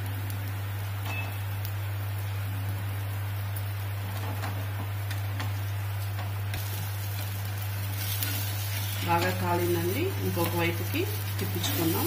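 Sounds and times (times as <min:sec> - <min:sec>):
dosa sizzling in oil on a pan: 0:00.0 - 0:12.0
steady low hum: 0:00.0 - 0:12.0.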